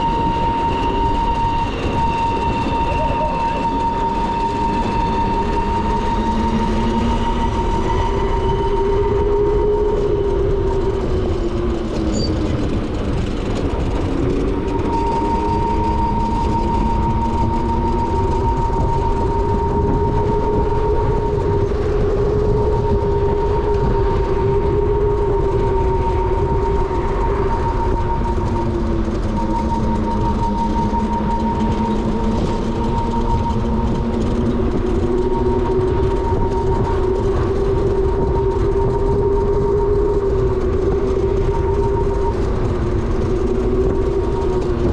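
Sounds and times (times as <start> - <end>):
electric motorbike motor whining: 0.0 - 44.9
high drive whine: 0.0 - 44.9
wind and road noise: 0.0 - 44.9.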